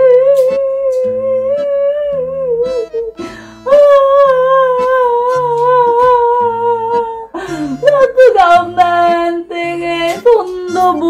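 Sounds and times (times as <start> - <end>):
background music with plucked guitar: 0.0 - 11.0.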